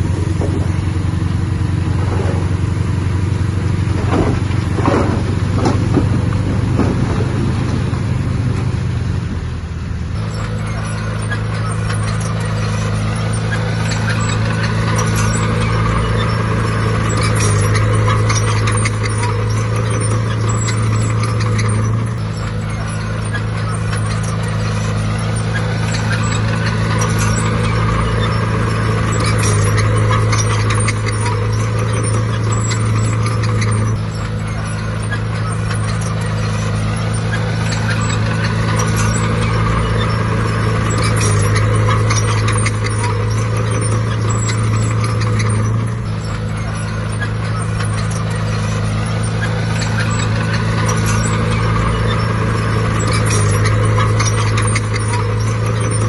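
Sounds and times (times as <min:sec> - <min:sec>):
light metallic clatter: 0:00.0 - 0:09.5, 0:10.2 - 0:56.0
diesel engine droning: 0:00.0 - 0:56.0.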